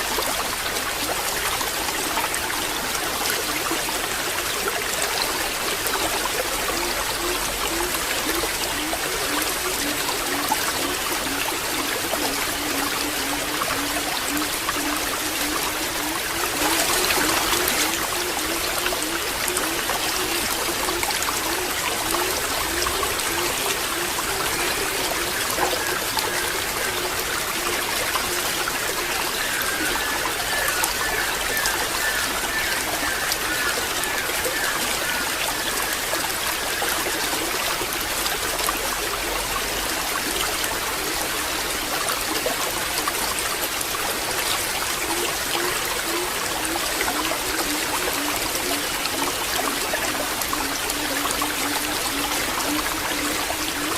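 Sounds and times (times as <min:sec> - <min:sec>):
water trickling and gurgling: 0:00.0 - 0:53.9.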